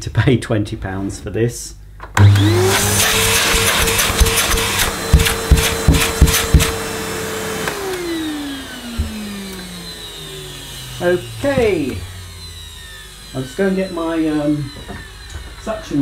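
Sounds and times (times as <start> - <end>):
vacuum cleaner whine: 2.2 - 16.0.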